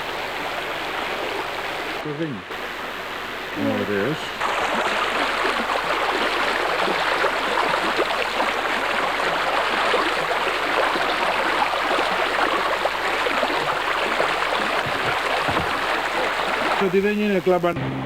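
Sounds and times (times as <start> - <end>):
stream rushing over rocks: 0.0 - 17.7.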